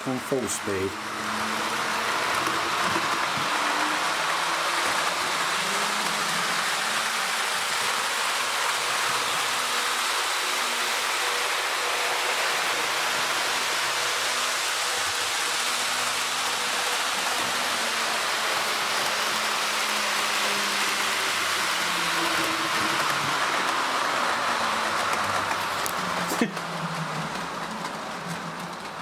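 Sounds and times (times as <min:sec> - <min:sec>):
model train wheels on rails: 0:00.0 - 0:29.0.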